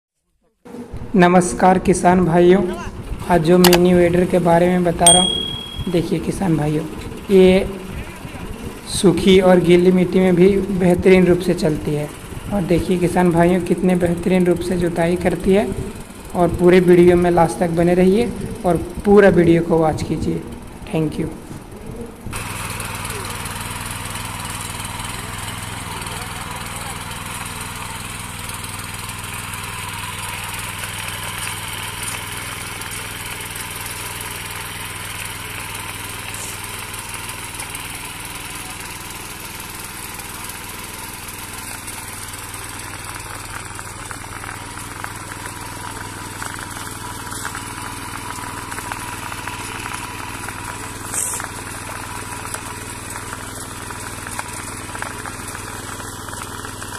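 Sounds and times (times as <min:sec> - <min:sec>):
small engine tilling soil: 0:03.1 - 0:56.9.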